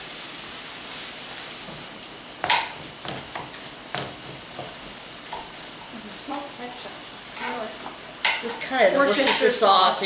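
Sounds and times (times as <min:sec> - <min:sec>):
food sizzling in a skillet: 0:00.0 - 0:10.0.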